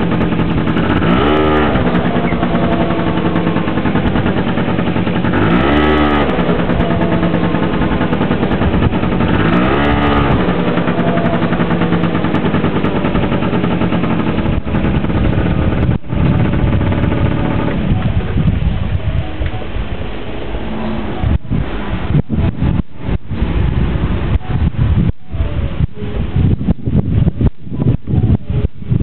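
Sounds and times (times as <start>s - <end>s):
scooter engine revving: 0.0s - 26.6s.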